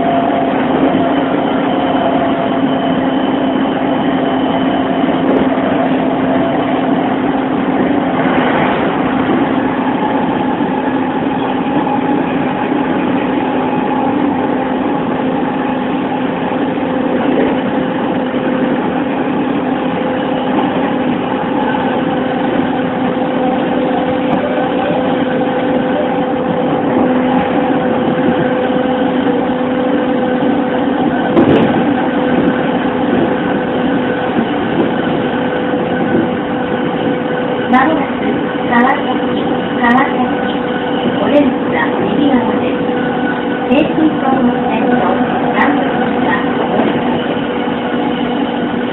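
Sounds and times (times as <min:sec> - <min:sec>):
train motor hum: 0:00.0 - 0:48.9
train wheels rolling on rails: 0:00.0 - 0:48.9.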